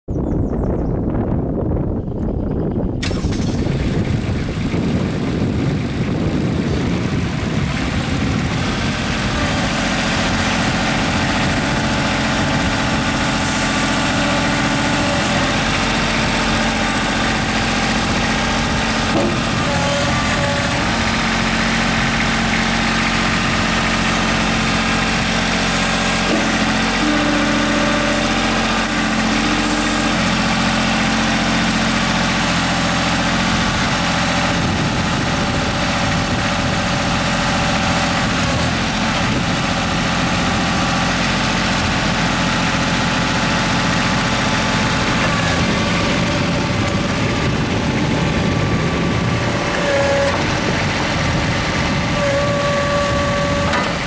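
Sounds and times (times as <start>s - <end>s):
diesel engine running: 0.1s - 54.0s.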